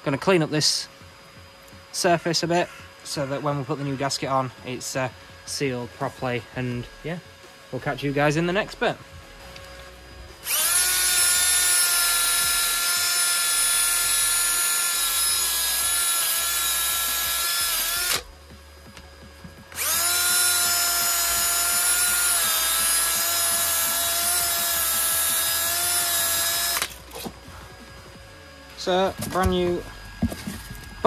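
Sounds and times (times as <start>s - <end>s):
rotary power tool whining: 0.7s - 31.0s.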